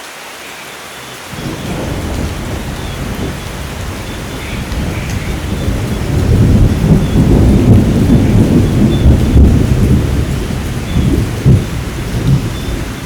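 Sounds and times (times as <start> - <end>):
heavy rain: 0.0 - 13.0
thunder rumbling: 1.3 - 13.0.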